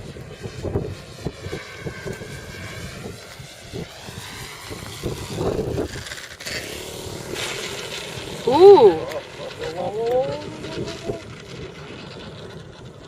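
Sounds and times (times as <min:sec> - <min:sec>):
model plane propeller whining: 0:00.0 - 0:13.0
wind buffeting microphone: 0:00.0 - 0:13.0.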